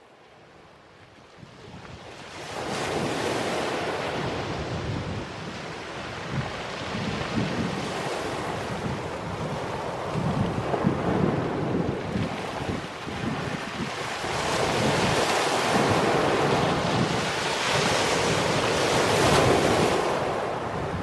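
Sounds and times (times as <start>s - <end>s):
wind buffeting microphone: 1.2s - 21.0s
waves washing over shingle: 1.8s - 21.0s.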